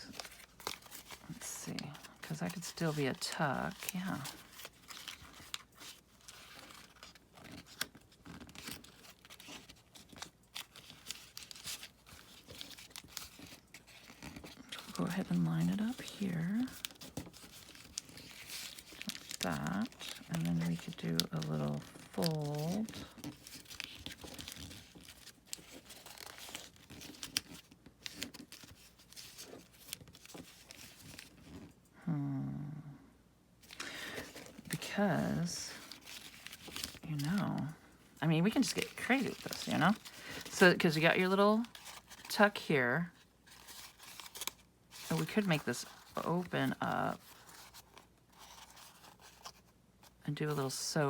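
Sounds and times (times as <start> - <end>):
paper rustling and crackling: 0.0 - 31.8, 33.6 - 51.0.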